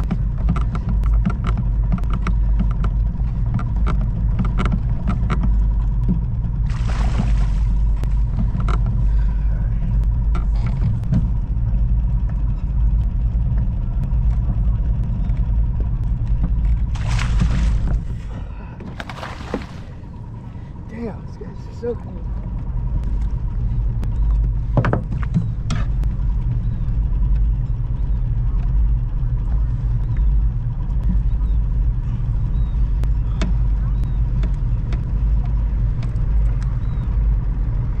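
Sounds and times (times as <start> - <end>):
boat motor rumble: 0.0 - 38.0.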